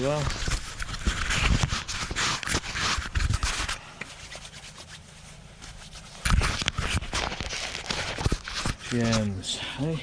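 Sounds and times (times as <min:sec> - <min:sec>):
wipe rubbing over tools: 0:00.0 - 0:10.0.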